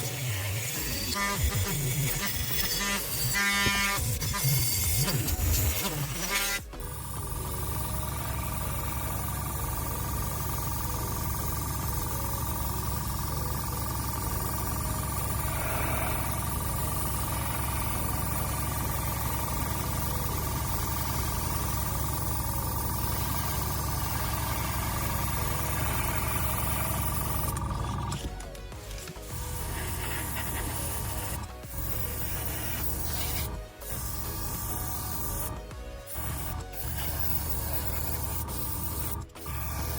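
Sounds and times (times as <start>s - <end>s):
machine running with hum and whine: 0.0s - 39.9s.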